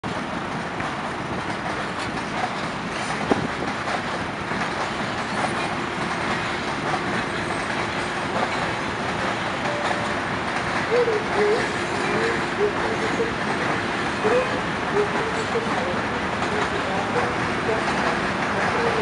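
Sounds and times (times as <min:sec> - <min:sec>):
electric locomotive running: 0:00.1 - 0:19.0.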